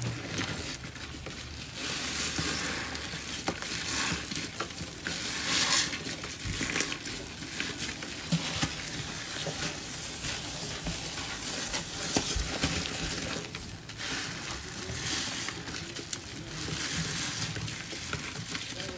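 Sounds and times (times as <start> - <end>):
foam crackling: 0.0 - 18.9.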